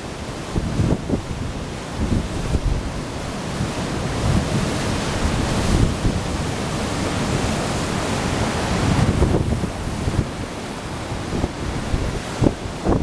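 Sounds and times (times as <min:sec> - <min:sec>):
wind gusting against microphone: 0:00.0 - 0:13.0.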